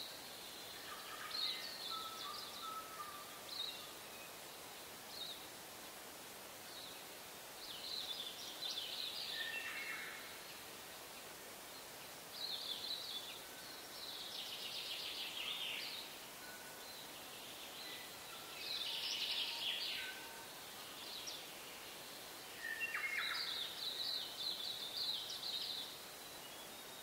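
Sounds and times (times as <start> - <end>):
faint hiss: 0.0 - 27.0
songbirds singing: 0.0 - 27.0.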